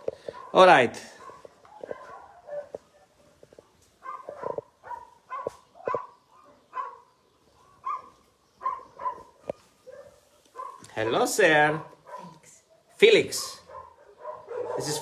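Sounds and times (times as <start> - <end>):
dog barking: 0.3 - 15.0.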